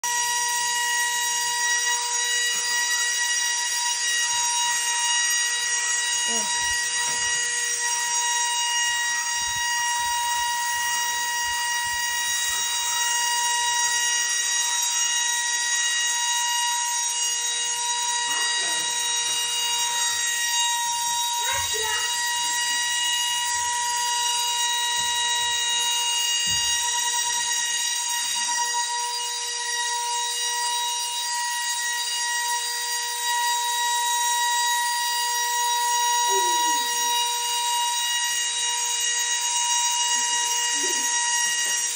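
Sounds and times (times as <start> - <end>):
high-pitched fan whine: 0.0 - 41.9.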